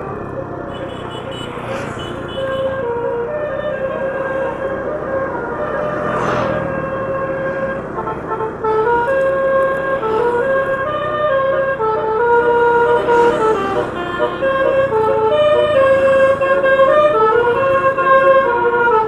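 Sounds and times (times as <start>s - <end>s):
musical air horn melody: 0.0s - 19.0s.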